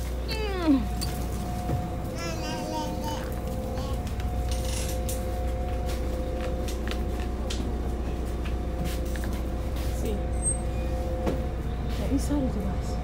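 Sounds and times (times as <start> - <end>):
bus engine rumble: 0.0 - 13.0
constant whine: 0.0 - 13.0.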